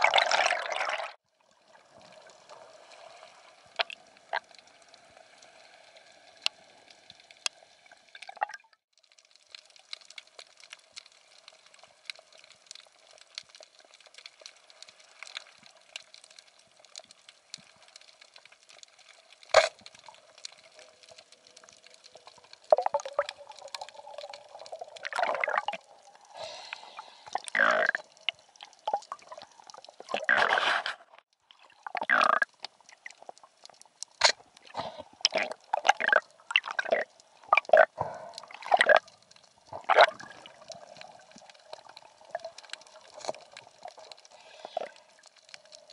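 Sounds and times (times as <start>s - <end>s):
faint steady underwater crackle: 0.0s - 45.9s
water sloshing and bubbling: 0.0s - 45.9s.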